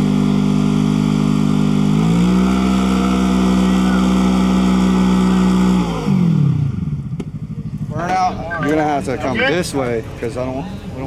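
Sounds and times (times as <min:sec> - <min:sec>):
engine at high revs: 0:00.0 - 0:09.5.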